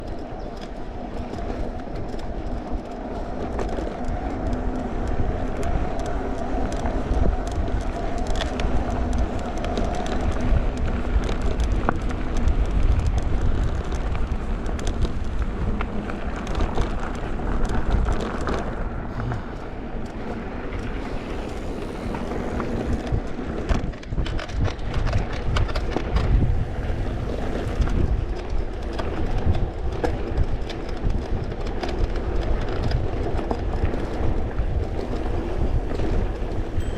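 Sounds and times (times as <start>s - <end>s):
bike tyres rolling rumble: 0.0s - 36.9s.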